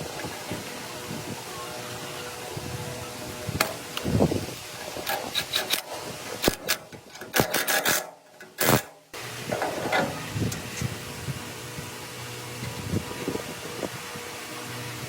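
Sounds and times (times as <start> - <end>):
steady tool hum: 0.0 - 15.0.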